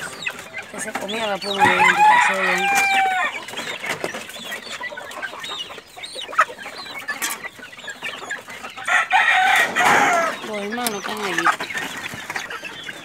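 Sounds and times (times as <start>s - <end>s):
chicks cheeping and clucking: 0.0s - 13.0s.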